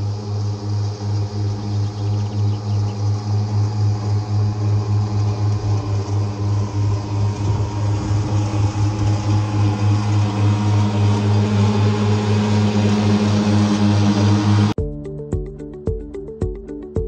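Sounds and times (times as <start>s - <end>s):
ride-on mower engine hum: 0.0s - 17.0s.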